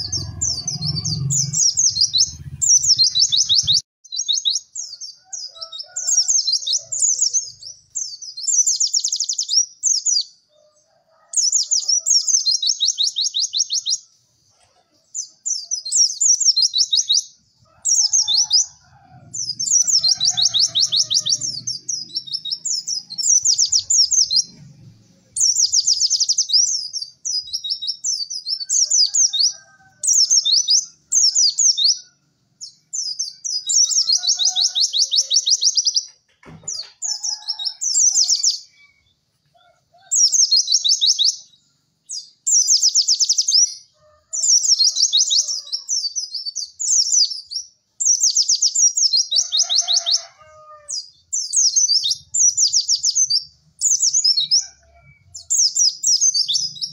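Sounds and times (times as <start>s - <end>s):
bird trilling song: 0.0s - 39.2s, 40.0s - 56.9s.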